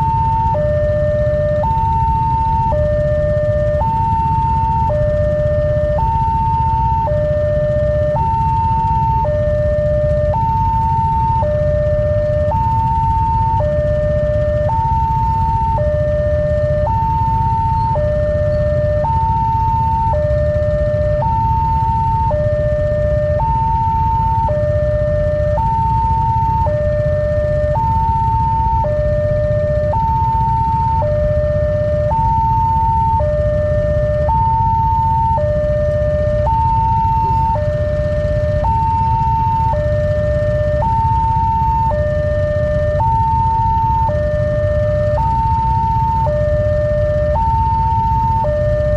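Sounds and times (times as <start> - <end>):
two-tone siren: 0.0 - 48.9.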